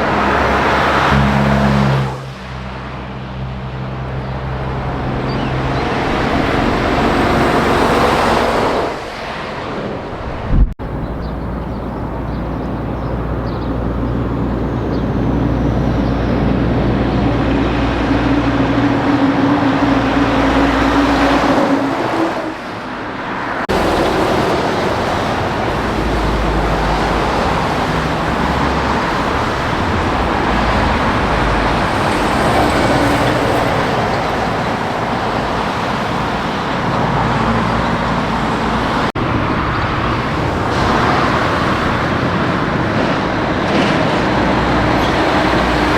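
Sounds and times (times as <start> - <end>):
heavy trucks engines: 0.0 - 45.9.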